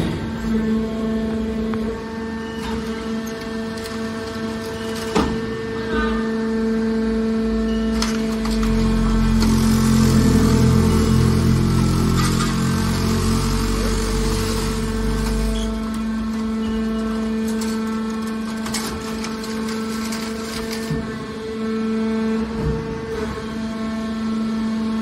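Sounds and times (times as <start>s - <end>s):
hydraulic baler motor humming: 0.0s - 25.0s.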